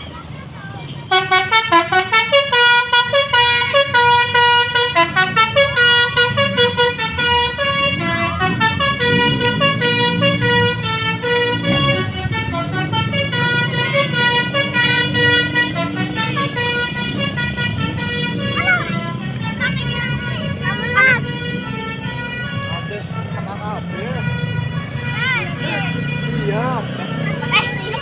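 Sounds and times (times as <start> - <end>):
bus engine running: 0.0 - 28.0
musical air horns: 1.0 - 28.0.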